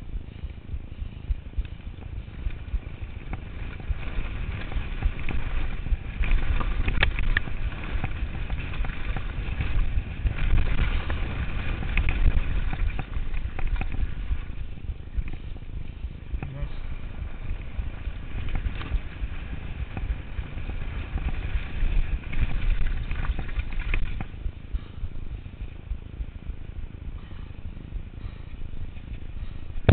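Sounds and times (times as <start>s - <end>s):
wind rumble on microphone: 0.0s - 29.9s
bike knocks and rattles: 0.3s - 25.0s.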